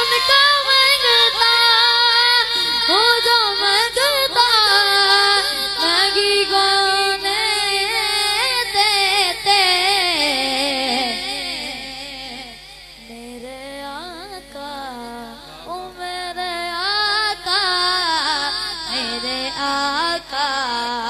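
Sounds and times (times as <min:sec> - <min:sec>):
boy singing into a microphone: 0:00.0 - 0:21.0.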